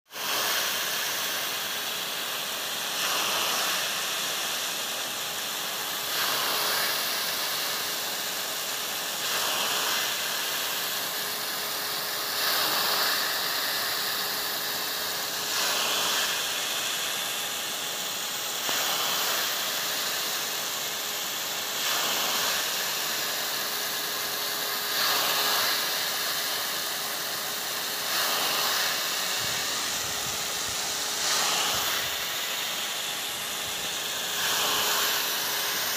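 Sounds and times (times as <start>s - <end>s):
sprinkler water jet hissing: 0.2s - 35.9s.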